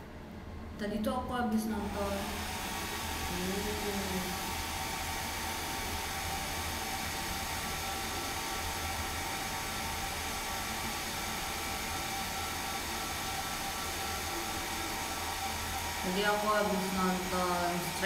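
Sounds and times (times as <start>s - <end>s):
hair dryer blowing: 1.7s - 18.0s.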